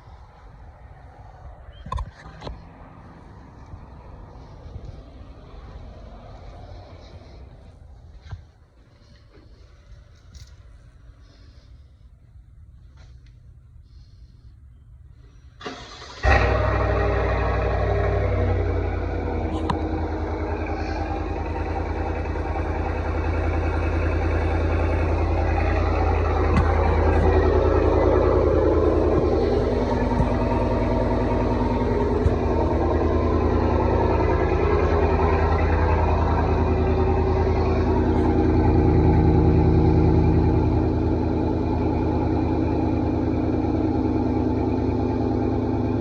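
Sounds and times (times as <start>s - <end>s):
truck engine idling: 0.0s - 46.0s.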